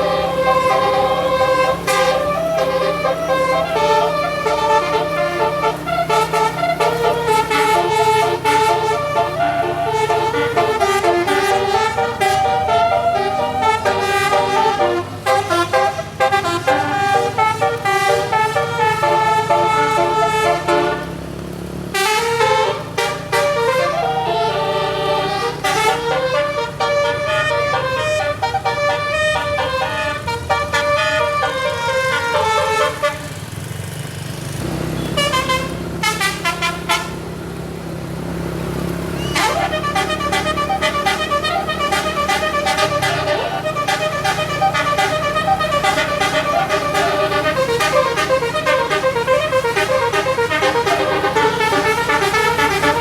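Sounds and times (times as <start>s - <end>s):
musical bus air horn: 0.0s - 33.7s, 34.6s - 37.8s, 38.7s - 53.0s
bus engine running: 0.0s - 53.0s.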